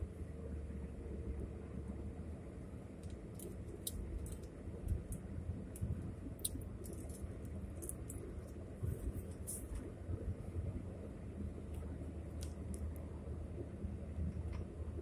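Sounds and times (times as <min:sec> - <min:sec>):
tyre and engine rumble: 0:00.0 - 0:15.0.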